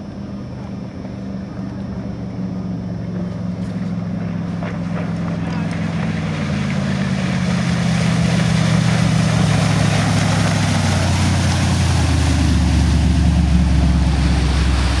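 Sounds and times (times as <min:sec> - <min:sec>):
speedboat engine running: 0:00.0 - 0:15.0.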